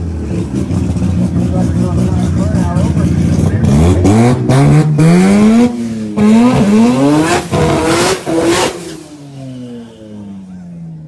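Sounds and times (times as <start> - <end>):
drag car engine at full throttle: 0.0 - 11.0.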